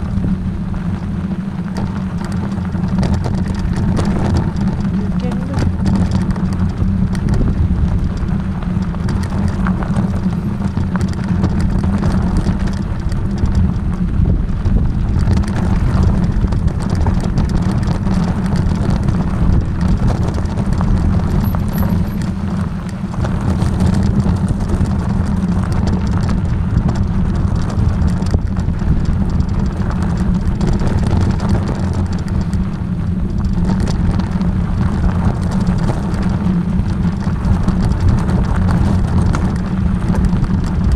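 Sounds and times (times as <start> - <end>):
vehicle engine and road rumble: 0.0 - 40.9.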